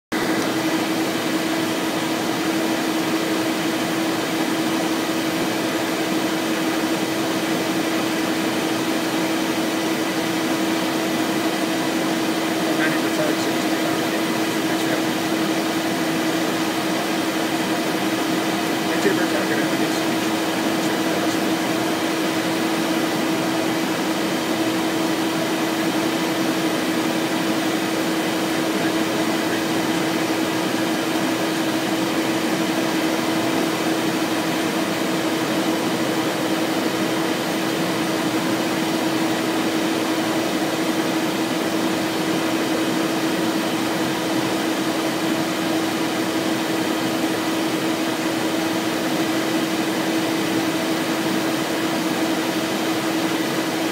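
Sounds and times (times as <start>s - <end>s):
jet cockpit airflow and engine noise: 0.0s - 53.9s
steady low hum: 0.2s - 53.9s.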